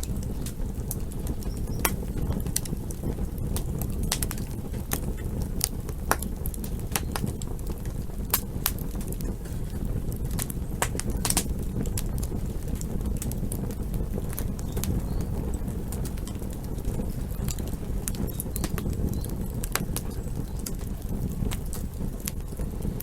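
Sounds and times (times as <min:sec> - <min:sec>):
campfire crackling: 0:00.0 - 0:23.0
low rumble: 0:00.0 - 0:23.0.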